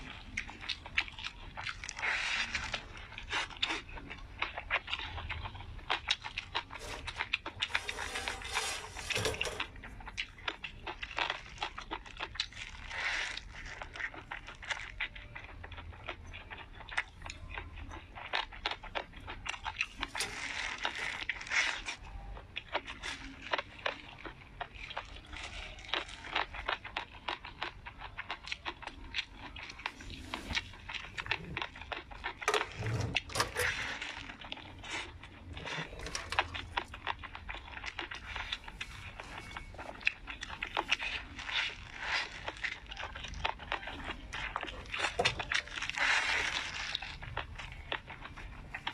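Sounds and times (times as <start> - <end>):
person chewing food: 0.0 - 48.9.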